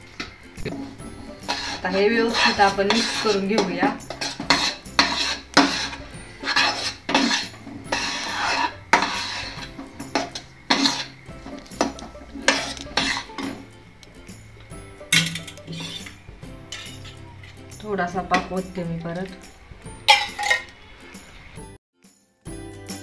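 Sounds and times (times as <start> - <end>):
soft background music: 0.0 - 23.0
metal spatula scraping a pan: 0.2 - 13.8, 15.0 - 19.3, 19.9 - 20.8.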